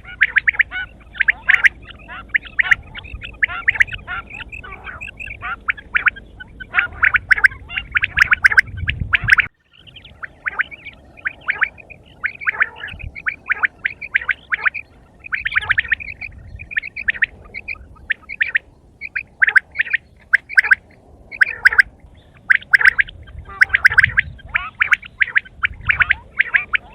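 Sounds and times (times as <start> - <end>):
quail chirping: 0.0 - 26.9.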